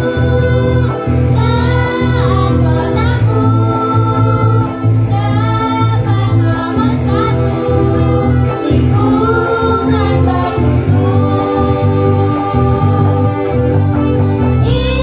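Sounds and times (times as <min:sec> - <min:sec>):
girls singing into microphones: 0:00.0 - 0:15.0
live band with electric guitars: 0:00.0 - 0:15.0.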